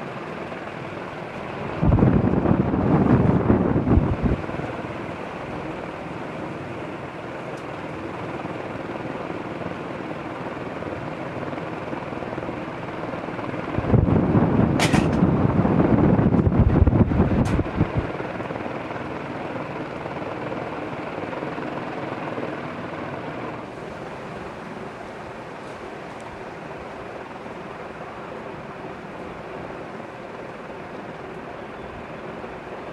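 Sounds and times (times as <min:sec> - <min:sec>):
ceiling fan running: 0:00.0 - 0:32.9.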